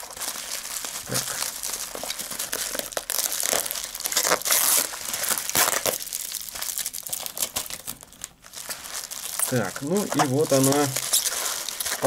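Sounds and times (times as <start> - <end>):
bubble wrap crinkling: 0.0 - 12.0
packing tape pulled off: 0.0 - 12.0.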